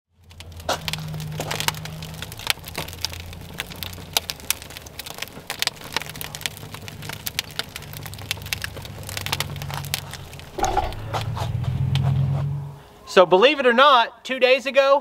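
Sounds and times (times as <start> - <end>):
wood fire crackling and popping: 0.1 - 12.3.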